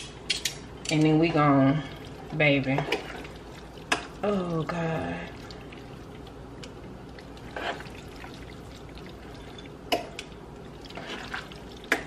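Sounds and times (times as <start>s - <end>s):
wet pasta squelching: 1.6s - 12.0s.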